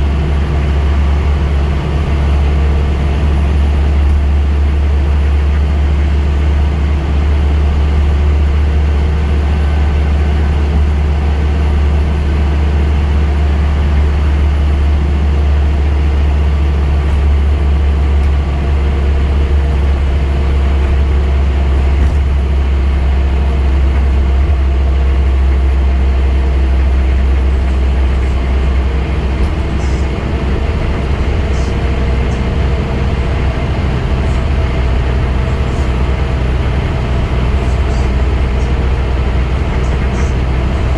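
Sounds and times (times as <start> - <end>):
bus diesel engine droning: 0.0 - 40.9
faint engine whine: 0.0 - 40.9.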